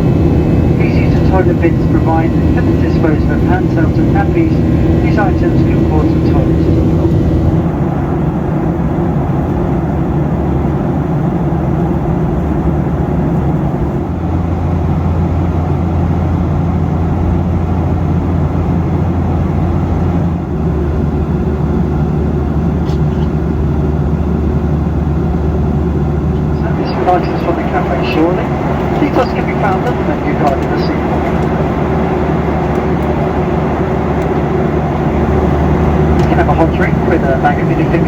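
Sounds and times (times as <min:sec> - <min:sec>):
airplane cabin engine drone: 0:00.0 - 0:38.0
low hum: 0:00.0 - 0:38.0.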